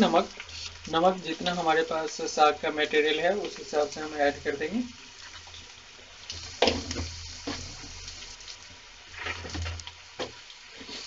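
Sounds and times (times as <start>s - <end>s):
onions frying in hot oil: 0.0s - 11.0s.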